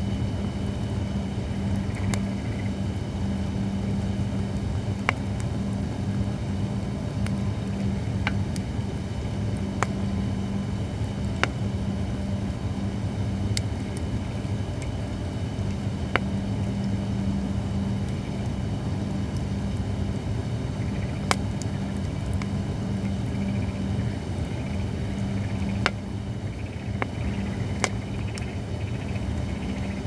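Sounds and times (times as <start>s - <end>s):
low fire rumble: 0.0s - 30.0s
firewood crackling pops: 1.6s - 29.5s.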